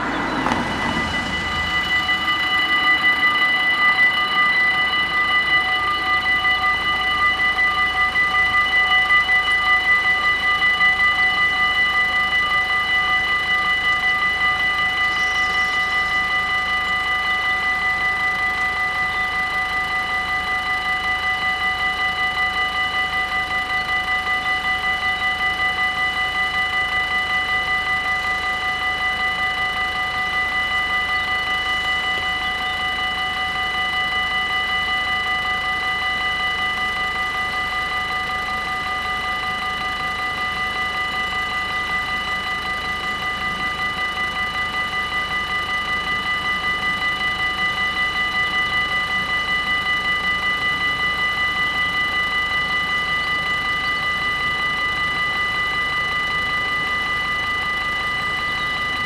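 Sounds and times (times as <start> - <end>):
level-crossing warning bells: 0.0 - 59.0.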